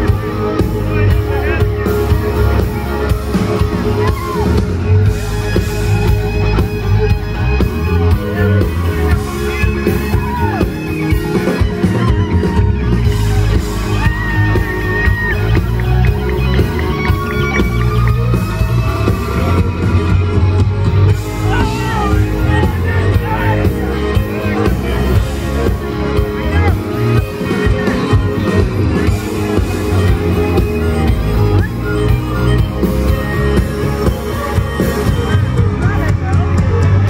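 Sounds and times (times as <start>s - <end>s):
crowd yelling: 0.0s - 37.0s
live country-rock band: 0.0s - 37.0s.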